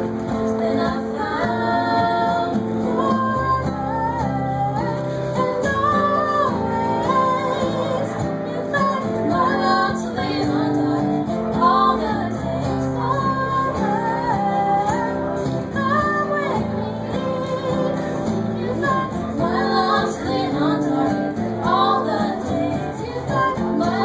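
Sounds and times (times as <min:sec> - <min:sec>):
acoustic guitar: 0:00.0 - 0:24.0
women singing gospel: 0:00.0 - 0:24.0.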